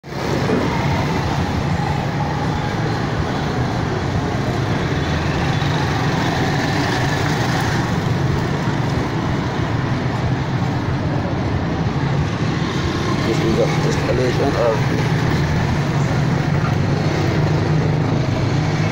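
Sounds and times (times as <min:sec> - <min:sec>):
motor vehicle rumble: 0:00.0 - 0:18.9.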